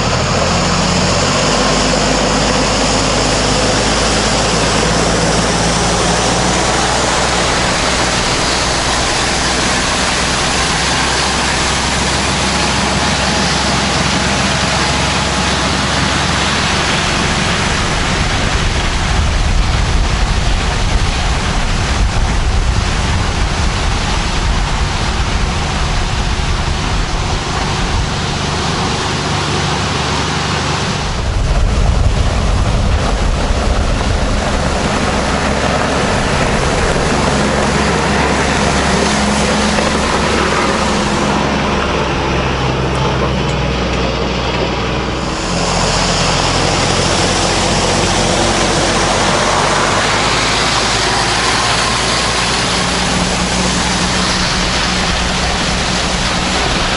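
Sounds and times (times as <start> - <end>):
steady rushing noise: 0.0 - 56.9
tractor engine running: 0.0 - 56.9.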